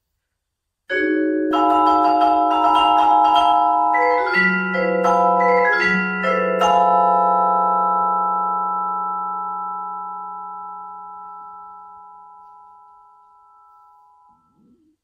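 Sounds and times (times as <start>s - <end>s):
vibraphone chords: 0.9s - 14.7s.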